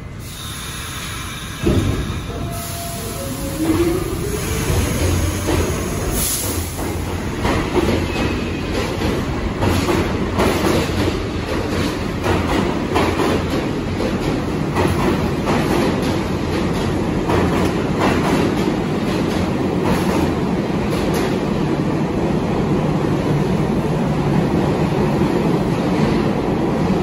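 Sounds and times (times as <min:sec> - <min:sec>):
subway train rumbling past: 0:00.0 - 0:27.0.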